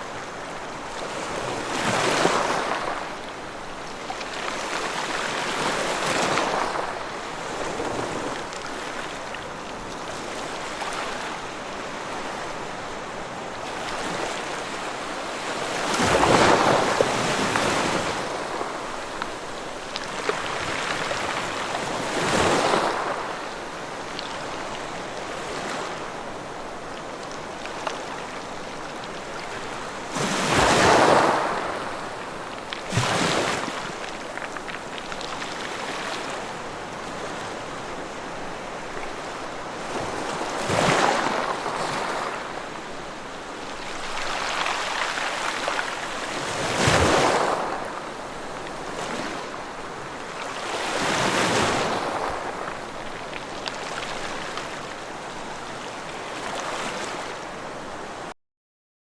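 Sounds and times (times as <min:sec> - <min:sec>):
ocean waves breaking on shore: 0:00.0 - 0:58.3.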